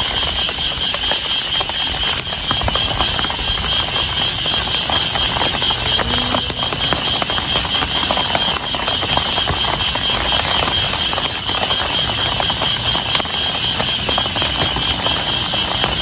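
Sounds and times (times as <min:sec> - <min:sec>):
heavy rain on a tent: 0:00.0 - 0:16.0
high-pitched drone: 0:00.0 - 0:16.0.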